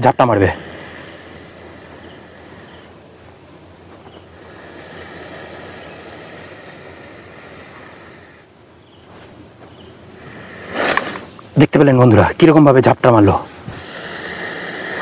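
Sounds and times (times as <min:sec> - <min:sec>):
background hiss: 0:00.0 - 0:15.0
insect chorus drone: 0:00.0 - 0:15.0.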